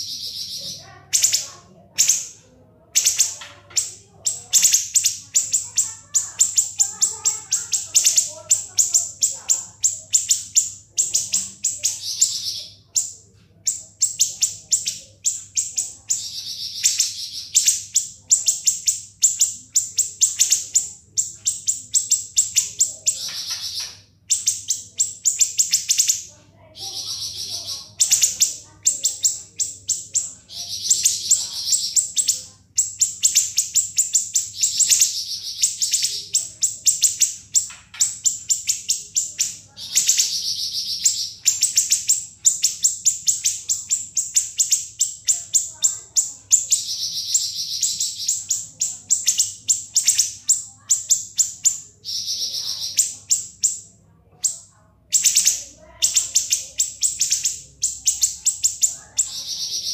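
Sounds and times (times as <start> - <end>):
songbird rapid high chirps: 0.0 - 59.9.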